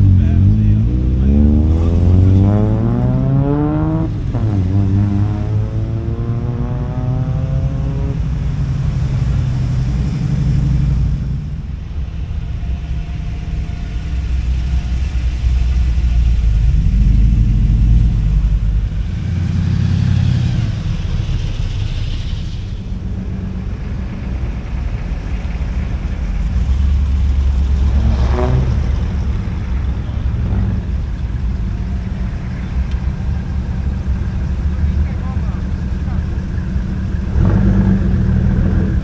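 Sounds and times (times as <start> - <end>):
car engine accelerating: 0.0 - 39.0
cars driving past: 0.0 - 39.0.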